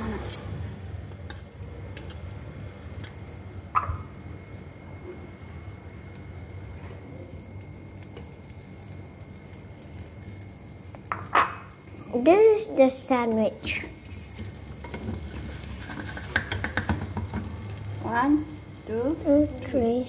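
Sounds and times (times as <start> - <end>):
food sizzling in a pan: 0.0 - 20.0
gas burner rushing: 0.0 - 20.0.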